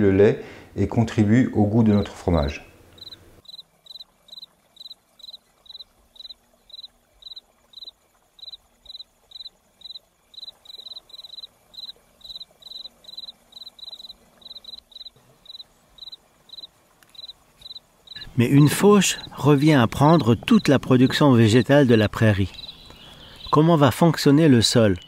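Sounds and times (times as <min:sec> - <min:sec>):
insect chirping: 0:02.9 - 0:25.0.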